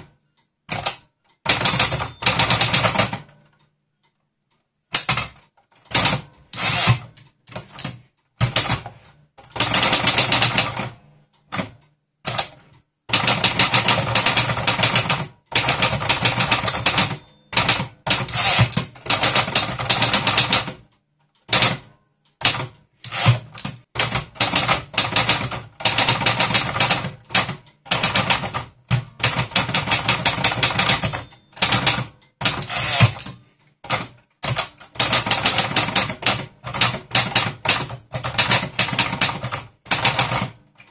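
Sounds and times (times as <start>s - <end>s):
typewriter keys clicking: 4.9s - 20.8s, 21.4s - 40.9s.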